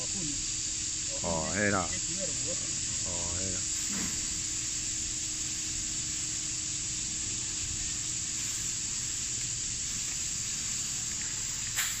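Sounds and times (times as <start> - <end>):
open-air hiss: 0.0 - 12.0.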